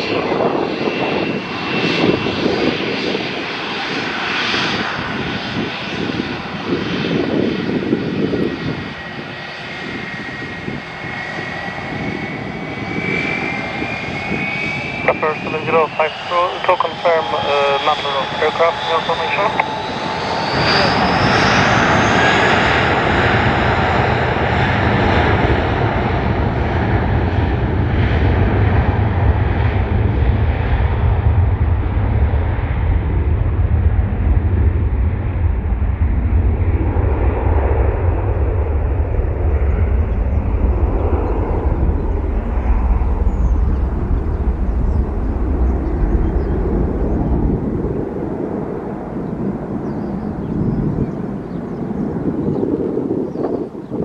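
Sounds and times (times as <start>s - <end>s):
jet airliner taking off: 0.0s - 54.0s.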